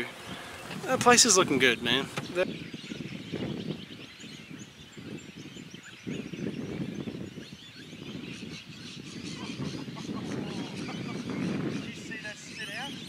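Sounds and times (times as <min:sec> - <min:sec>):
wind buffeting microphone: 0:00.0 - 0:13.0
faint bird calls: 0:01.9 - 0:13.0.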